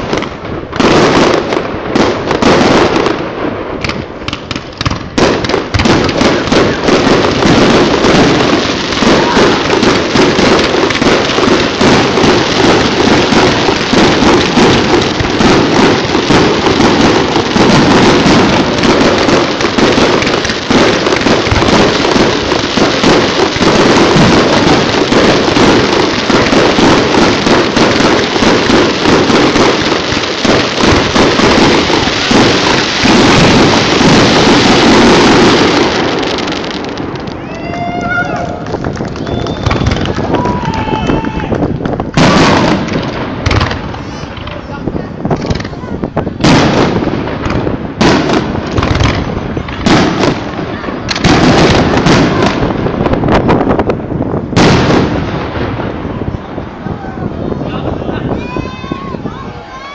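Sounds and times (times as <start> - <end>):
fireworks banging and crackling: 0.0 - 59.9.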